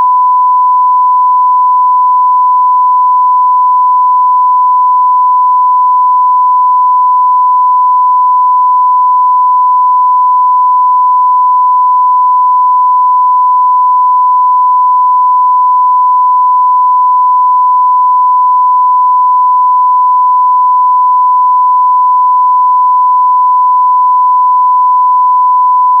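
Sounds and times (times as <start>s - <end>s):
steady sine tone bleep: 0.0s - 26.0s.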